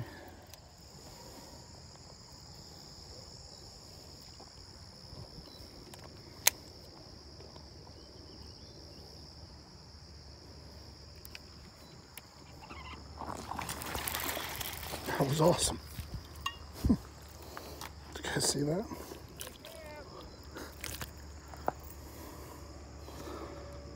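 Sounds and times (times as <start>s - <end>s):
high-pitched insect chorus: 0.0s - 23.9s.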